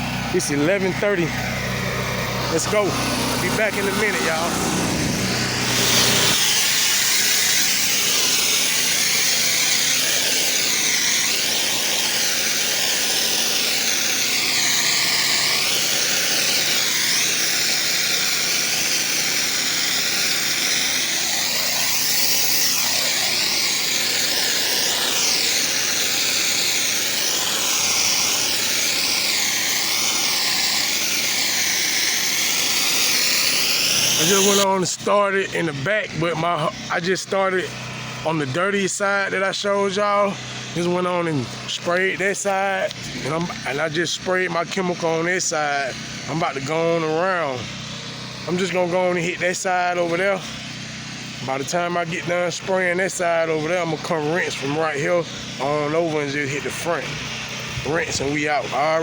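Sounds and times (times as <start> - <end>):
faint engine hum: 0.0 - 46.7, 47.4 - 59.0
pressure washer water jet hissing: 0.0 - 59.0.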